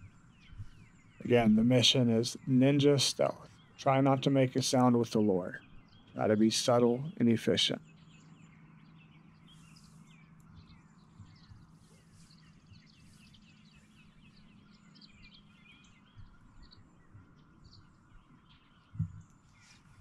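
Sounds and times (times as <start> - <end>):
faint low hum: 0.0 - 20.0
small birds chirping and trilling: 0.0 - 20.0.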